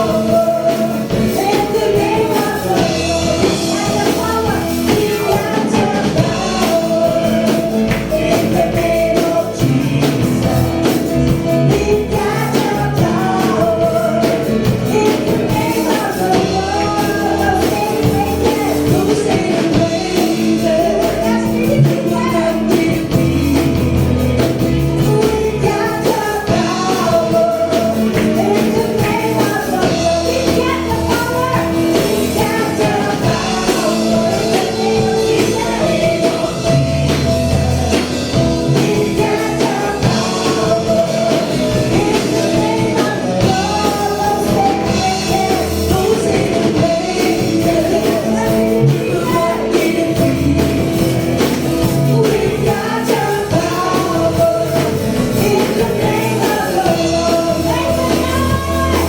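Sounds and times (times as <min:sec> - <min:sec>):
band with steady beat: 0:00.0 - 0:59.0
worship song singing: 0:00.0 - 0:59.0.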